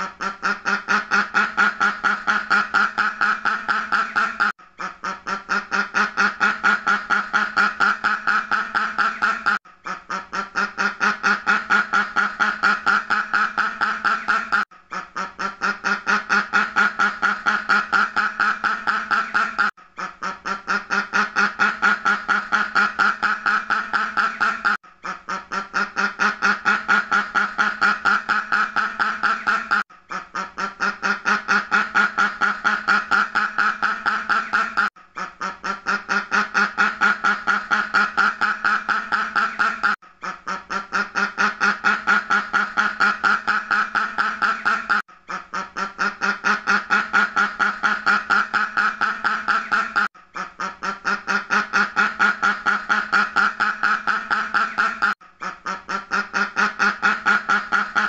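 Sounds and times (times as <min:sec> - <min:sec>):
duck quacking rapidly: 0:00.0 - 0:58.0.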